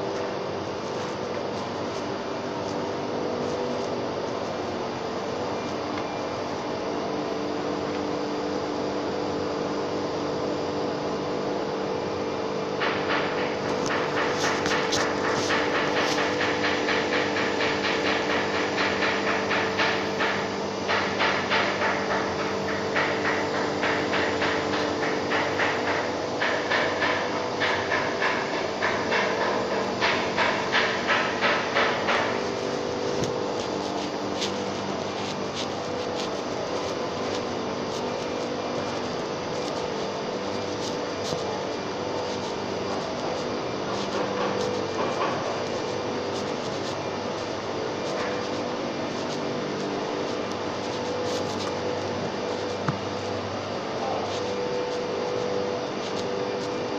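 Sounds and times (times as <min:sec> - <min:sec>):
machinery hum with held tones: 0:00.0 - 0:56.9.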